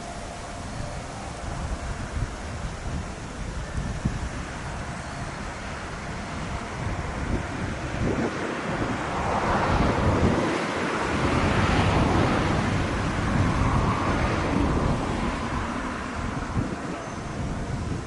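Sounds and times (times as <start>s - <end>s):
gusty wind buffeting microphone: 0.0s - 18.0s.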